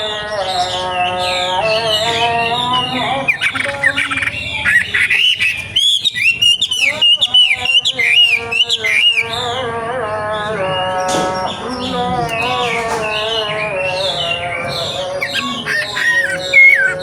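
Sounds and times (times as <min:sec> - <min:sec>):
chanted call to prayer: 0:00.0 - 0:17.0
songbird whistling: 0:01.5 - 0:09.5, 0:10.5 - 0:17.0.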